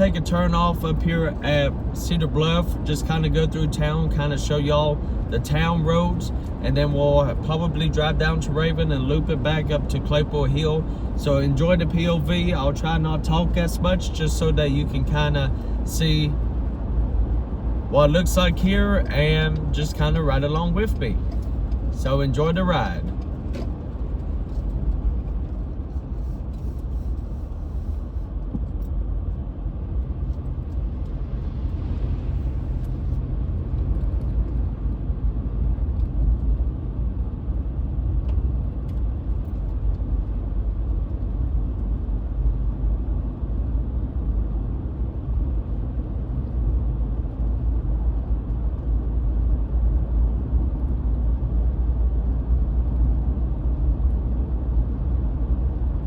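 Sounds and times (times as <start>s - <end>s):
tyre and engine rumble in car: 0.0s - 56.0s.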